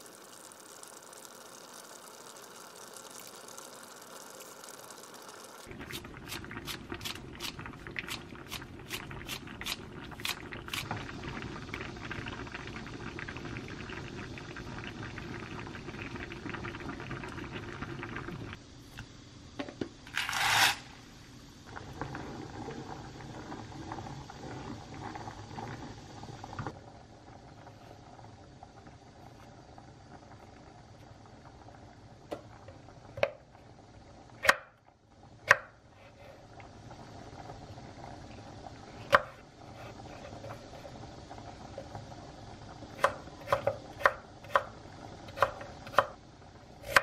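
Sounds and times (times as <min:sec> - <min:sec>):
stew bubbling in a pan: 0:00.0 - 0:19.6, 0:21.0 - 0:47.0.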